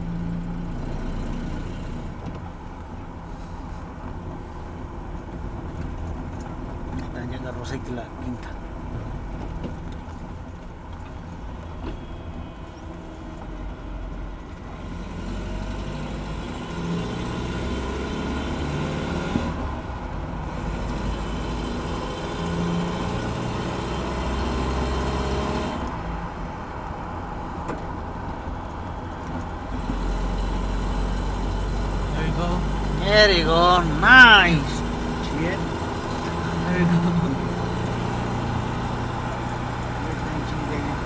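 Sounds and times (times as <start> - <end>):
road noise inside cab: 0.0 - 41.0
truck engine accelerating: 0.0 - 41.0.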